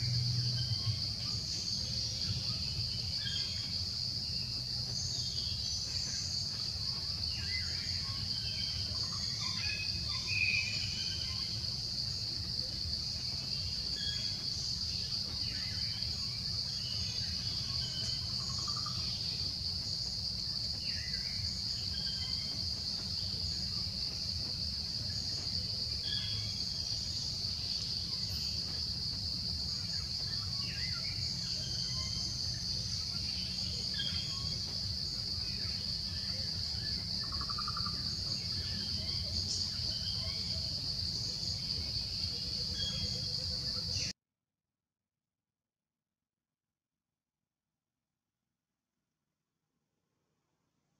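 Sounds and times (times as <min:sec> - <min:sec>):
insects droning: 0:00.0 - 0:44.1.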